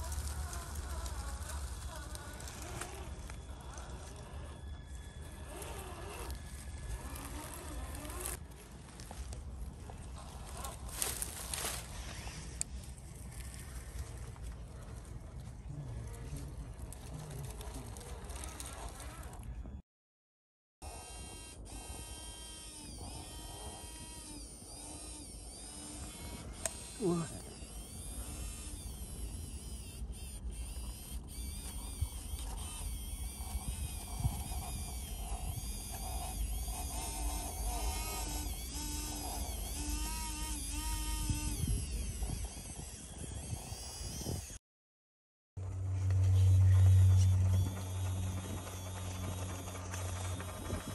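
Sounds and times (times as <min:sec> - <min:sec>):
electric motor whining: 0:00.0 - 0:12.6, 0:20.8 - 0:44.6, 0:45.6 - 0:50.9.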